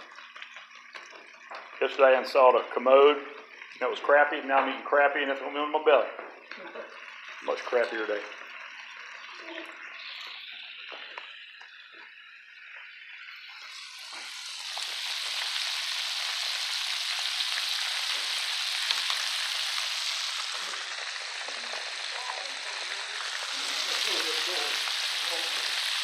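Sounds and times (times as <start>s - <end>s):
oil bubbling and sizzling: 0.0s - 26.0s.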